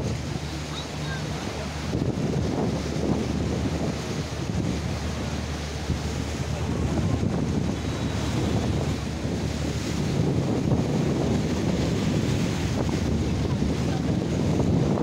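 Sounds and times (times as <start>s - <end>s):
boat engine rumble: 0.0s - 15.0s
water wash: 0.0s - 15.0s
wind on microphone: 0.0s - 15.0s.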